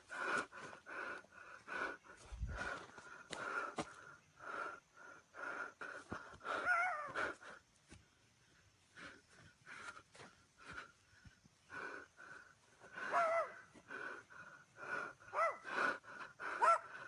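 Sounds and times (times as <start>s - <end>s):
person breathing hard and wheezily: 0.0s - 17.0s.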